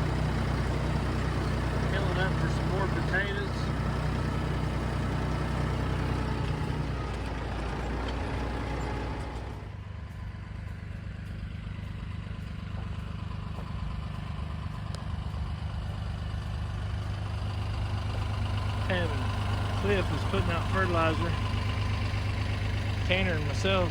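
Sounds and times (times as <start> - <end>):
engine humming at low speed: 0.0 - 23.9
rough engine noise: 0.0 - 23.9.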